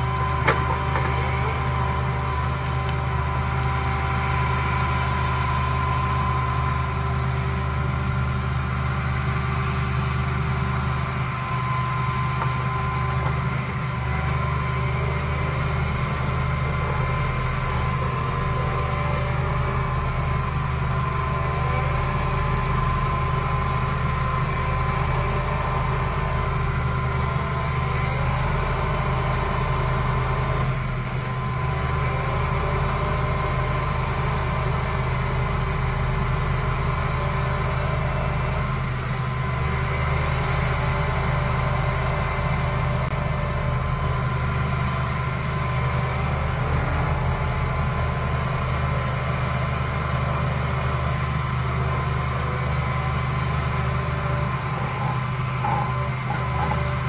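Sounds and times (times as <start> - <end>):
constant whine: 0.0 - 57.0
vibratory pile driver drone: 0.0 - 57.0.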